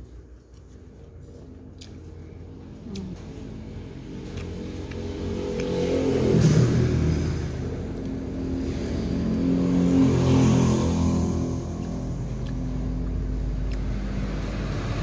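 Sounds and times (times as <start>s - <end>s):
vehicle engine passing: 0.6s - 15.0s.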